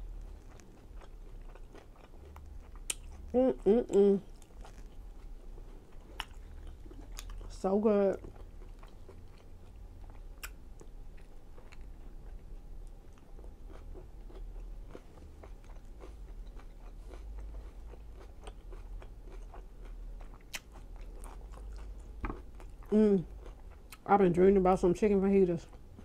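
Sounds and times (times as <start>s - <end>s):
person chewing food: 0.0s - 24.1s.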